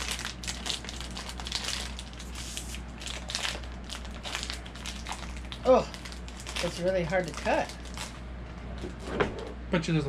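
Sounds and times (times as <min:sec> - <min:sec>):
foil bag crinkling: 0:00.0 - 0:08.2.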